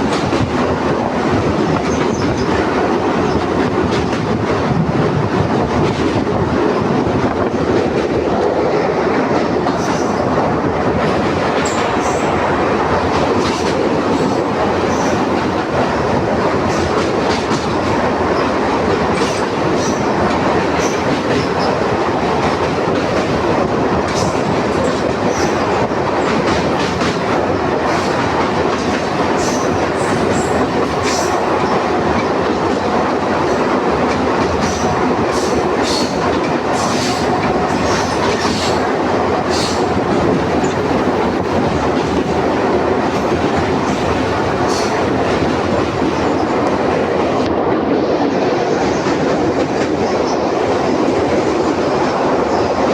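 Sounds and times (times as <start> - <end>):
train rumbling on rails: 0.0 - 52.9.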